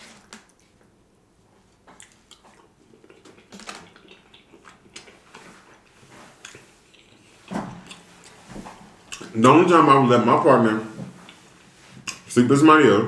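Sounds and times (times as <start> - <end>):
chewing soft food: 0.0 - 9.4, 11.1 - 12.3.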